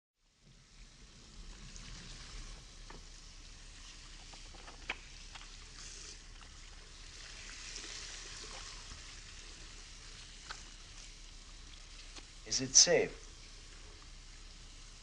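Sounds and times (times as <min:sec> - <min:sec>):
faint steady hiss: 0:00.2 - 0:15.0.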